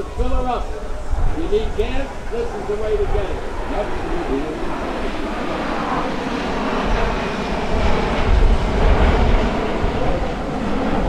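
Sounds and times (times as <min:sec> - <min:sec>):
jet flyby rumble: 0:00.0 - 0:11.0.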